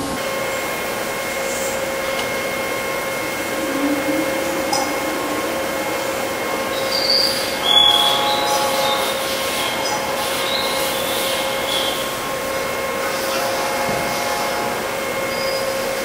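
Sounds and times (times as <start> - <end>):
boring mill whining: 0.0 - 16.0
low wavering tone: 0.2 - 16.0
high squeals: 0.3 - 15.9.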